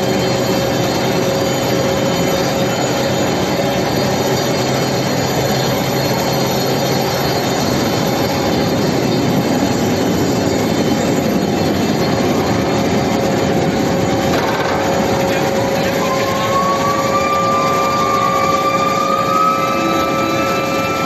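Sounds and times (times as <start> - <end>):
industrial machinery din: 0.0 - 21.0
steady hum: 0.0 - 21.0.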